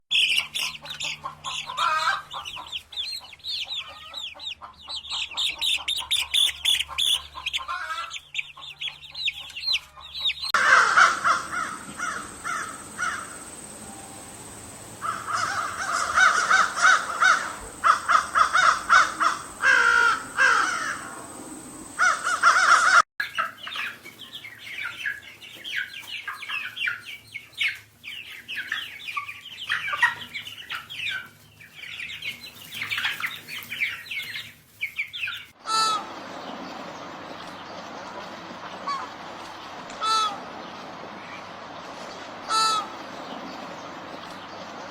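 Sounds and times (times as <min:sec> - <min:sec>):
birds chattering: 0:00.1 - 0:44.9
birds repeated lower calls: 0:00.1 - 0:44.9.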